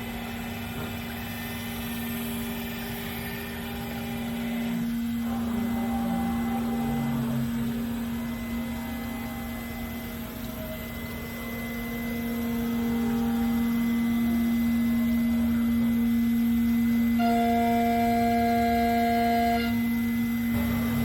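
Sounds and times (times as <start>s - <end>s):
cnc router humming: 0.0s - 21.0s.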